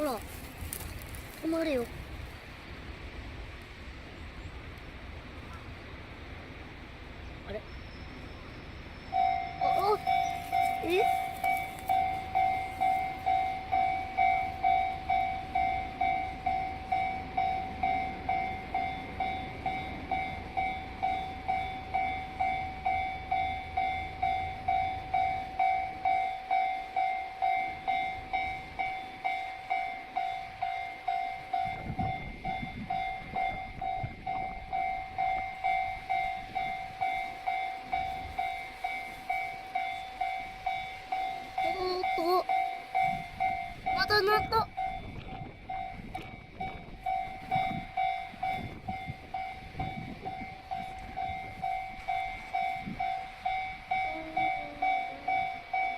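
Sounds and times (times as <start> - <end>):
train rumbling past: 0.0 - 55.9
level crossing bell ringing: 9.1 - 55.9.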